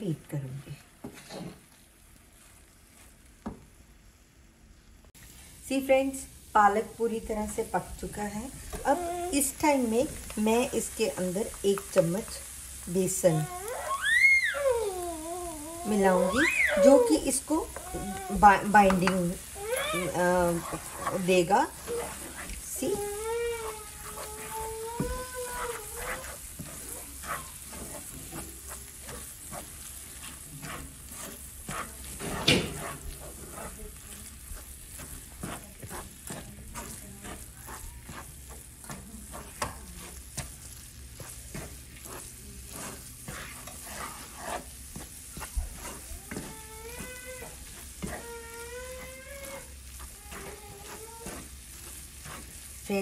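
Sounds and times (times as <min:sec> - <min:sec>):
steady sizzle: 0:00.0 - 0:53.0
spatula scraping a frying pan: 0:08.1 - 0:53.0.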